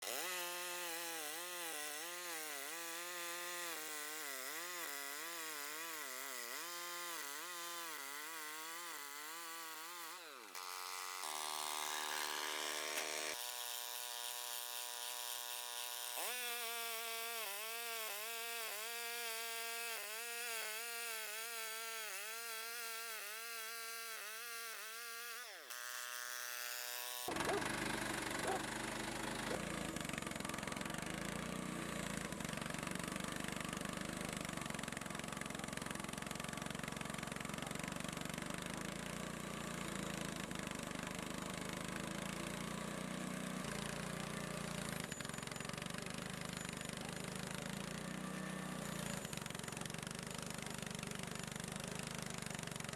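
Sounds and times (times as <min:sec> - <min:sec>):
sawmill engine running: 0:00.0 - 0:52.9.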